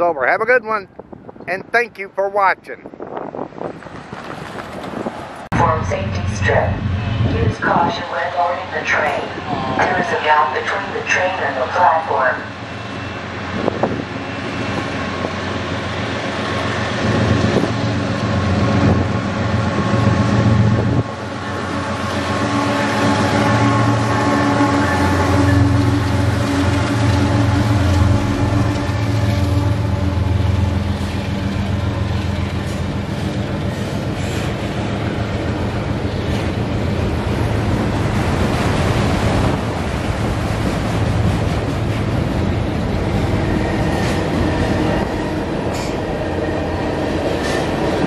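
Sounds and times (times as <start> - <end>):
train rumbling on tracks: 0.0 - 48.0.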